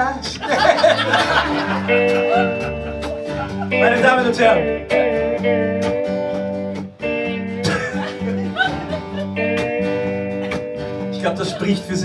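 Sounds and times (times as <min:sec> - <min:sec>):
low bass line: 0:00.0 - 0:11.7
guitar melody: 0:00.0 - 0:12.0
live band music: 0:00.0 - 0:12.0.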